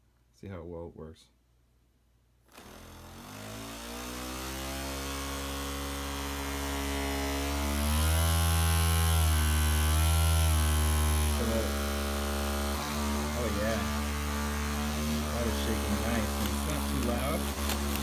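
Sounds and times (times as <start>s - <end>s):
small electric motor buzzing: 2.5s - 18.0s.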